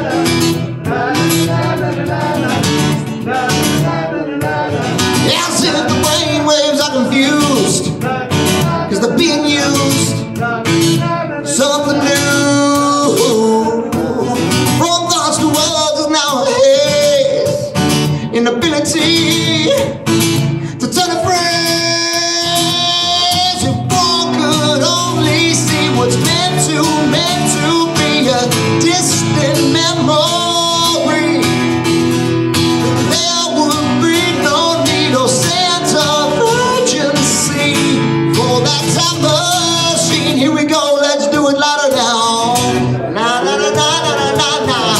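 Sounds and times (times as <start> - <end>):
man singing into a microphone: 0.0 - 31.9, 32.7 - 44.9
acoustic guitar strumming: 0.0 - 44.9.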